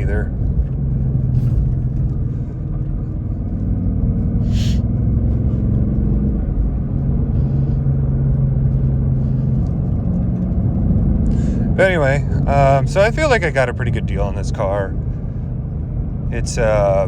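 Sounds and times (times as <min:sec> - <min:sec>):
car exhaust drone: 0:00.0 - 0:17.0.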